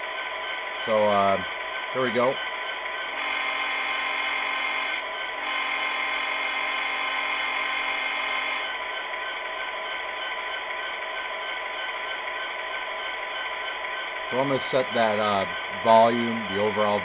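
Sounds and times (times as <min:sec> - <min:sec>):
simulated diesel engine drone: 0:00.0 - 0:17.0.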